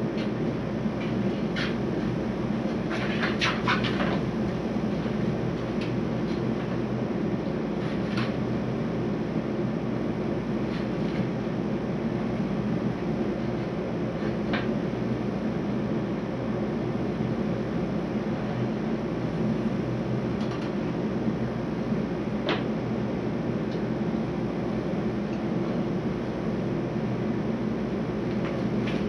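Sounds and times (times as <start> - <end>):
fan-like hum and hiss: 0.0 - 29.0.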